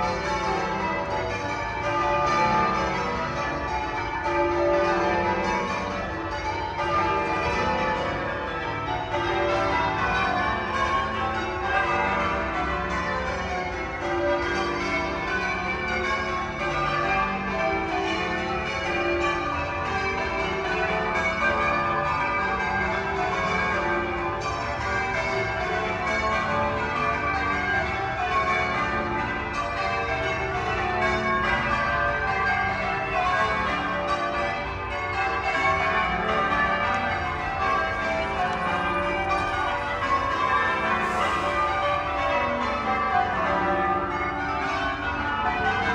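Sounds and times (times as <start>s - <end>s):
church bells change-ringing: 0.0s - 45.9s.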